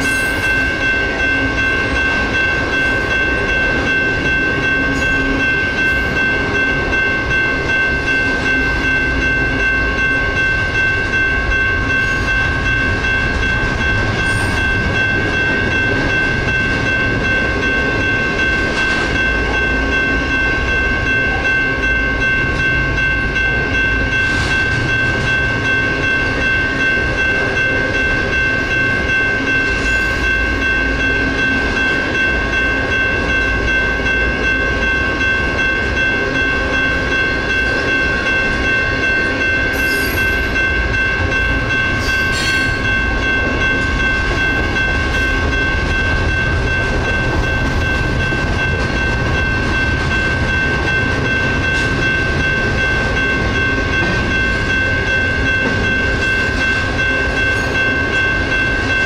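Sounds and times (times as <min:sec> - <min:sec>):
freight train wheels rumbling: 0:00.0 - 0:59.0
railroad crossing bells ringing: 0:00.0 - 0:59.0.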